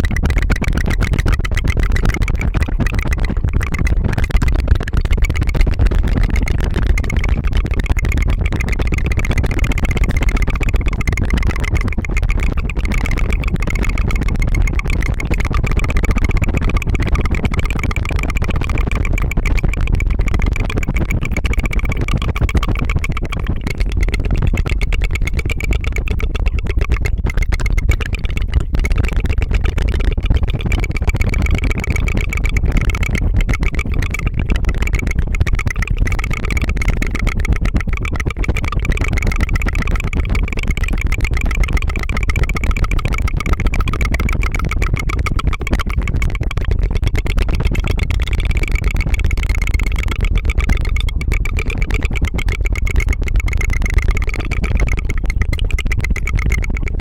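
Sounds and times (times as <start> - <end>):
tongue fluttering trill: 0.0 - 57.0.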